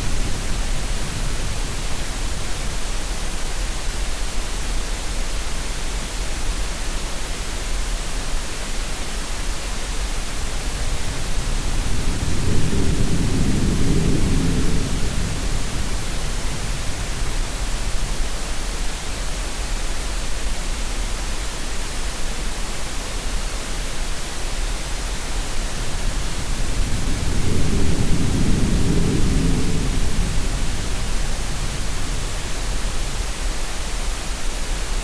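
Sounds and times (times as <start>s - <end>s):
steady green noise hiss: 0.0s - 35.0s.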